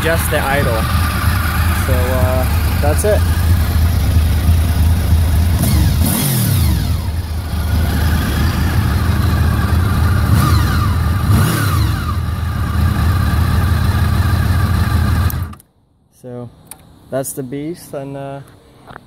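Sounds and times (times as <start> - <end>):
motorcycle engine idling and revving: 0.0 - 15.6.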